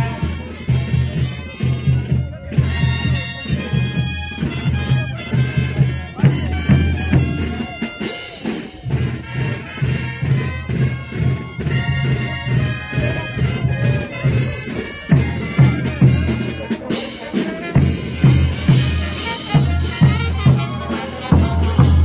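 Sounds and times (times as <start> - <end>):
brass band playing dance music: 0.0 - 22.0.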